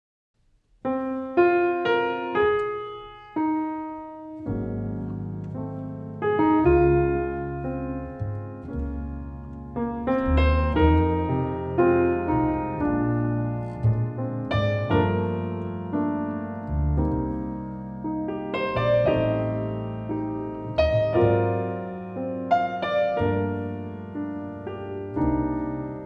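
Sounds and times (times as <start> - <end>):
piano chords: 0.8 - 26.0
double bass line: 4.4 - 26.0.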